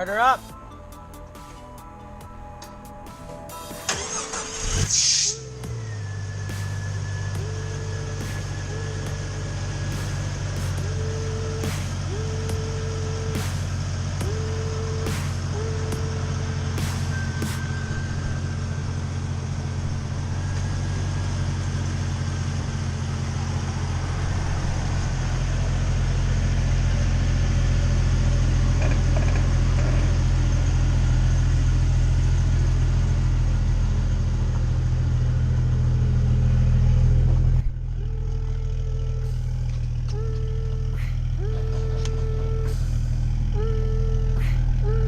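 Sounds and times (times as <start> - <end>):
car engine driving: 0.0 - 45.0.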